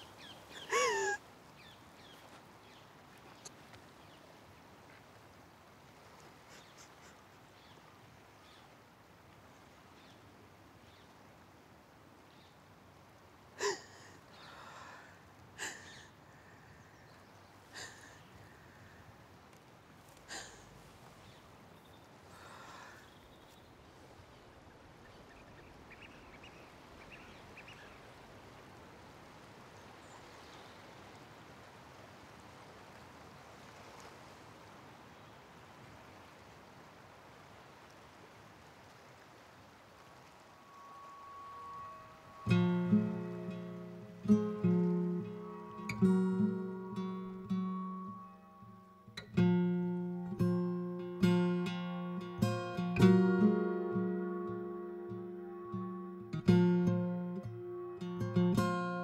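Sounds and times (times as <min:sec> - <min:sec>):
faint outdoor ambience: 0:00.0 - 0:59.0.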